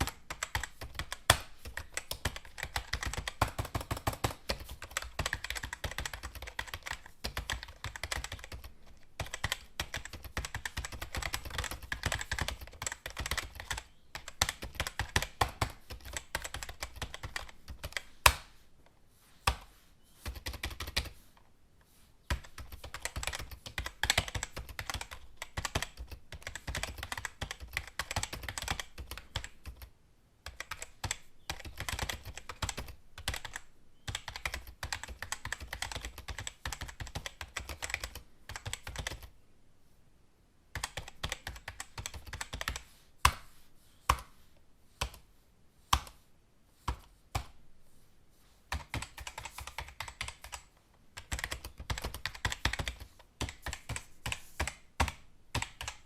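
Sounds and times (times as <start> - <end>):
keyboard typing: 0.0 - 18.5, 19.5 - 21.2, 22.3 - 39.3, 40.7 - 43.4, 48.7 - 56.0.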